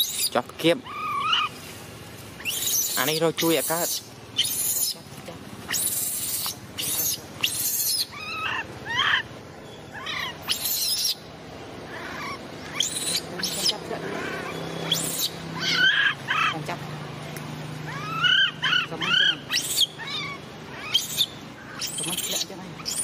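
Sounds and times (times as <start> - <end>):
baby monkey screaming: 0.0 - 1.6, 2.4 - 5.1, 5.7 - 9.3, 9.9 - 16.7, 17.8 - 23.0.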